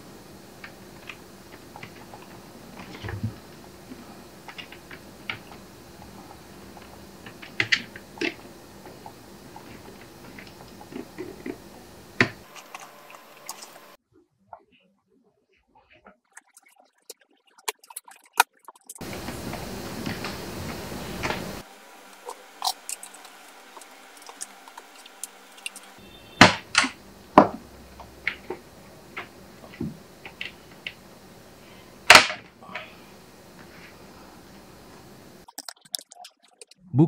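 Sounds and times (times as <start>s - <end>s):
steady hiss: 0.0s - 14.0s, 19.0s - 35.5s.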